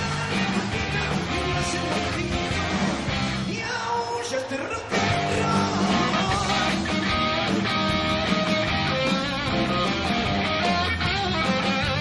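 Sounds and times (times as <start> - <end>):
electric guitar: 0.0 - 3.9, 4.7 - 12.0
live rock band playing: 0.0 - 12.0.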